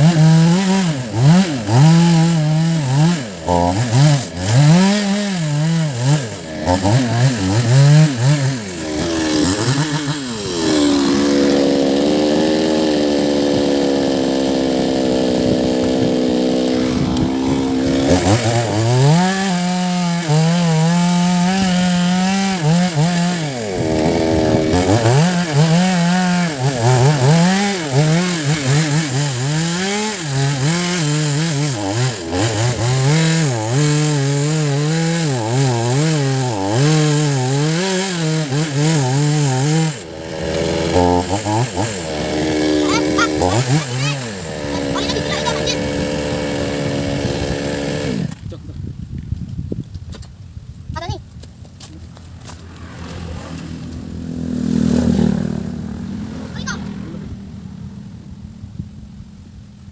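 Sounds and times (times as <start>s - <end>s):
chainsaw cutting and revving: 0.0s - 48.6s, 51.8s - 58.5s.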